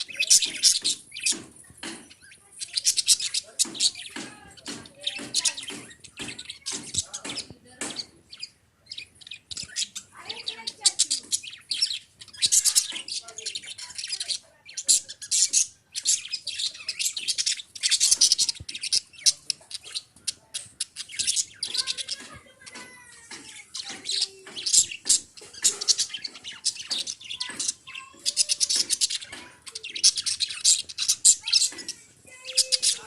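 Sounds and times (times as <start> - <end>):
parrots chattering and chirping: 0.0 - 33.0.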